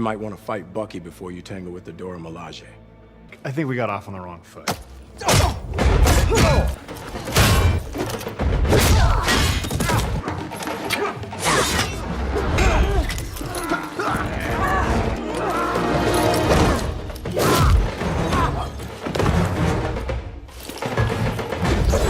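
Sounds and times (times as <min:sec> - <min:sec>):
action film music: 0:00.0 - 0:22.0.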